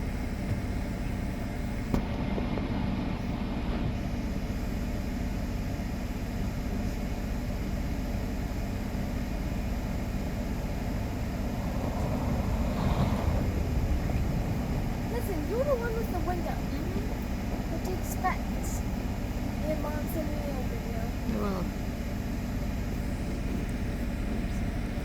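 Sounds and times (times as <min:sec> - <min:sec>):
low rumble inside a car: 0:00.0 - 0:25.0.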